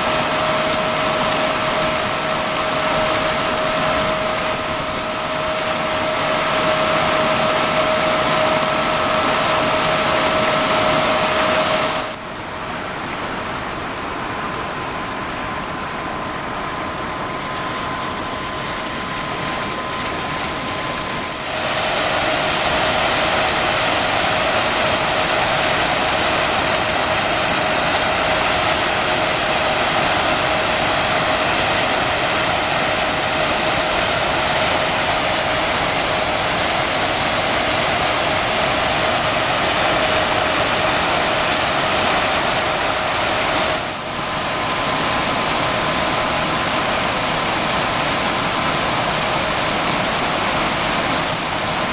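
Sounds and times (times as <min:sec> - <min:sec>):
water rushing through turbine: 0:00.0 - 0:51.9.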